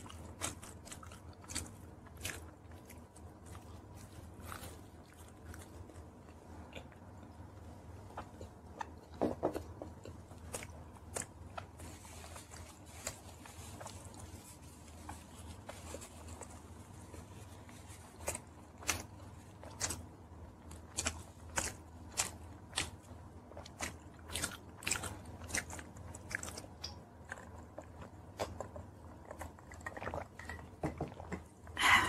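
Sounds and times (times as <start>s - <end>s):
chewing fried chicken: 0.0s - 32.0s.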